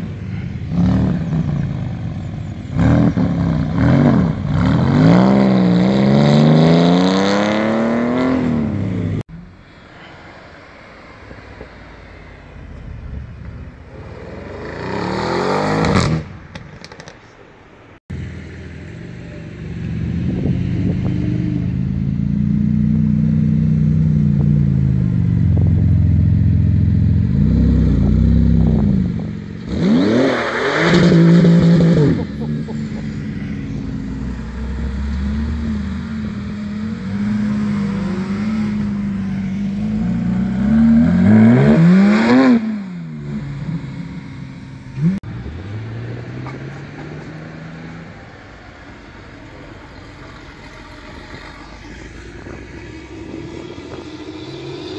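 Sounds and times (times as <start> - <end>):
sports cars revving past: 0.0 - 9.3, 10.3 - 17.0, 18.1 - 54.9.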